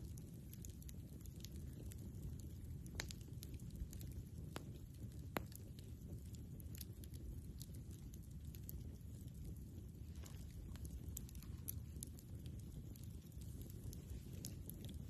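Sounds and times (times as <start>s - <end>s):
burning wood popping: 0.0s - 15.0s
low fire rumble: 0.0s - 15.0s.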